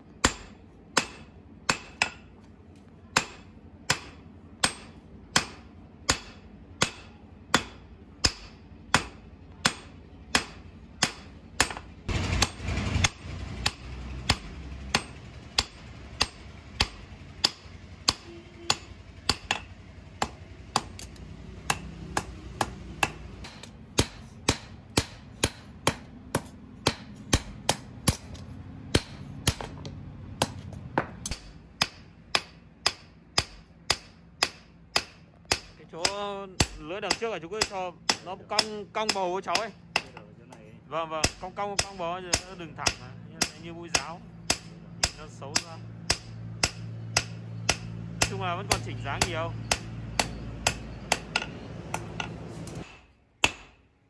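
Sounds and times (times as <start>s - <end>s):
hammer striking blade on anvil: 0.2s - 2.3s, 3.2s - 40.3s, 41.2s - 53.8s.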